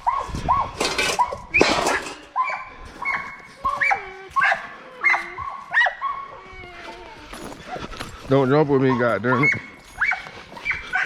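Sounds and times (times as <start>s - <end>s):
dogs whining and yipping: 0.0s - 11.0s.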